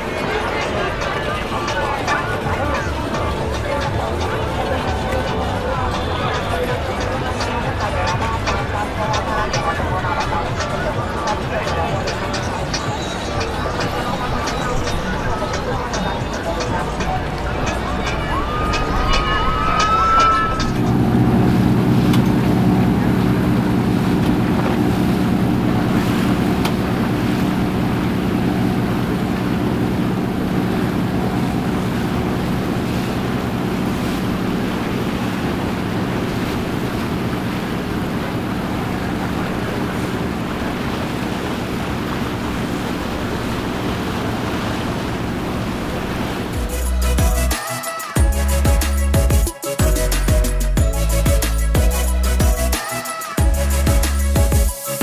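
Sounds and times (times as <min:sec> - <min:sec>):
motorboat engine running: 0:00.0 - 0:54.8
rushing water: 0:00.0 - 0:55.0.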